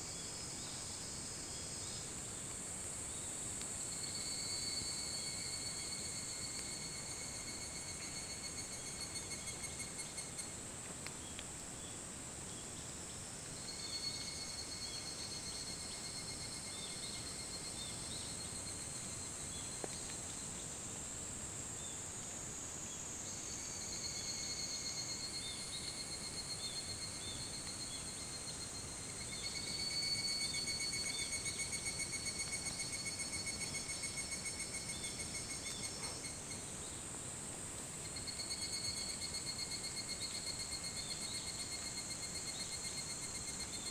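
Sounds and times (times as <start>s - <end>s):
cicadas trilling: 0.2s - 10.6s, 13.5s - 20.6s, 21.8s - 36.7s, 38.0s - 43.9s.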